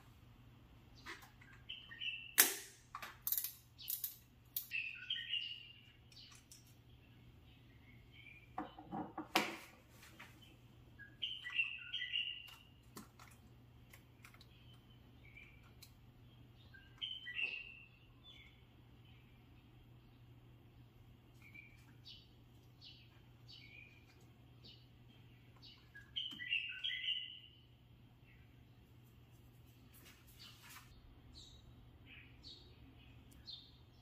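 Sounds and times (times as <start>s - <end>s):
birds chirping: 0.2s - 2.4s, 3.6s - 34.0s.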